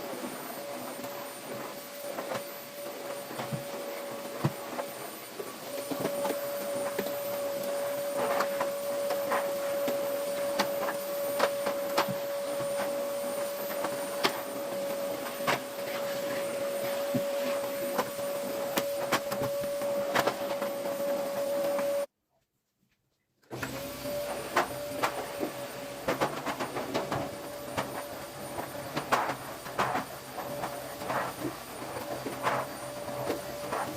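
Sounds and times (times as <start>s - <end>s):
vacuum cleaner whine: 0.0s - 22.1s, 23.5s - 33.9s.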